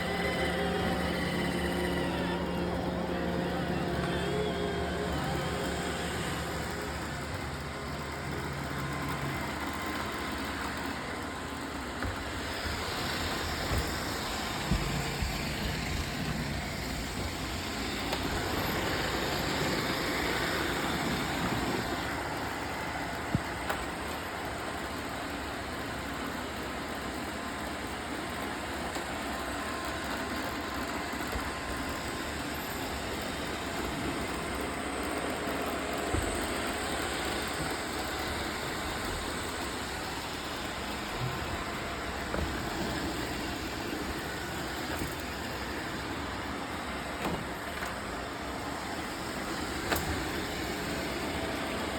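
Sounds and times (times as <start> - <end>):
robot vacuum cleaners whirring: 0.0 - 51.9.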